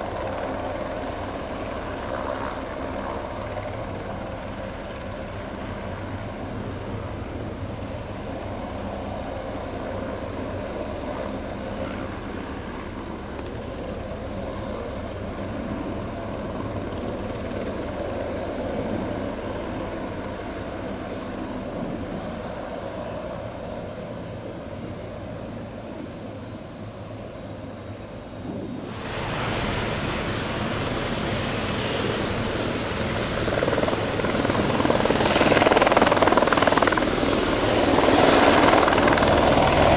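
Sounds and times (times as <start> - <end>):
helicopter running: 0.0 - 39.9
high turbine whine: 0.0 - 39.9.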